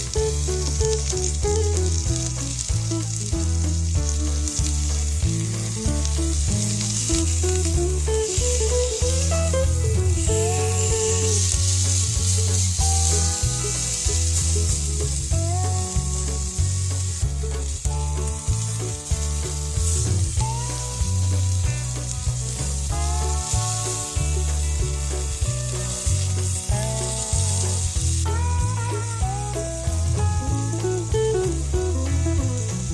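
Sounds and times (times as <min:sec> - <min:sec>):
background music: 0:00.0 - 0:32.9
meat sizzling on a grill: 0:00.0 - 0:32.9.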